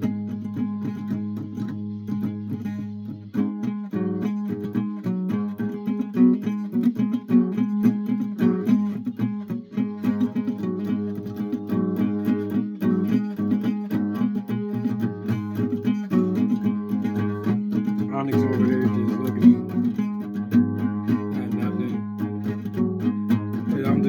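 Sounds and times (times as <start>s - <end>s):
guitar plucked notes: 0.0s - 24.0s.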